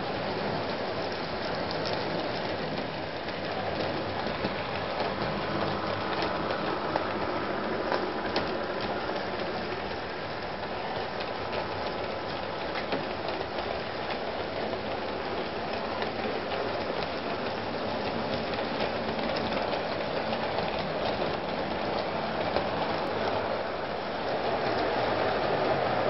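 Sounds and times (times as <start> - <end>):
model train rattling on track: 0.0 - 26.0
wheels clicking over rail joints: 0.0 - 26.0.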